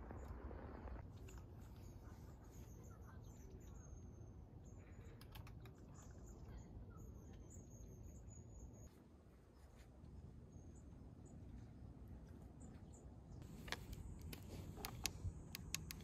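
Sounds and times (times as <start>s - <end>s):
faint low outdoor rumble: 0.0s - 16.0s.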